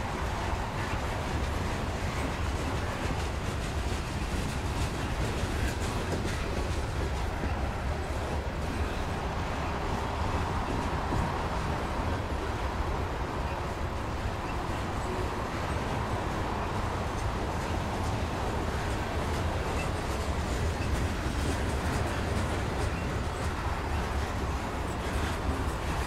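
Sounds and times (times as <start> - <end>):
steel wheels rolling on rail: 0.0 - 26.0.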